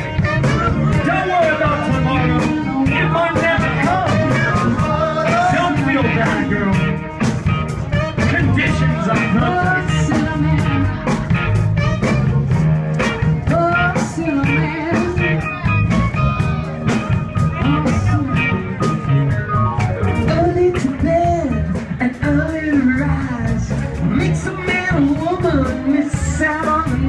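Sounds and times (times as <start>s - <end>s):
man singing lead vocal: 0.0s - 7.2s, 7.9s - 11.9s, 13.4s - 19.2s, 20.2s - 27.0s
live soul band playing: 0.0s - 27.0s.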